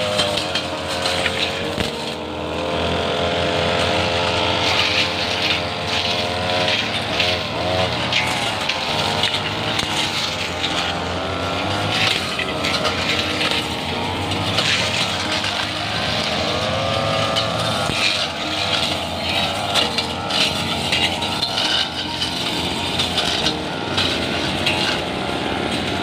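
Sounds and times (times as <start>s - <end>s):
brush cutter engines revving: 0.0s - 26.0s.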